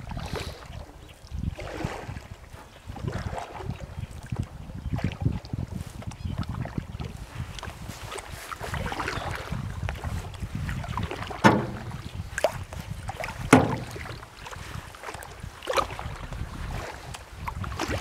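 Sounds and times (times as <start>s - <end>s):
paddle splashes and knocks: 0.0s - 18.0s
paddle strokes in water: 0.0s - 18.0s
wind rumble on microphone: 0.0s - 18.0s.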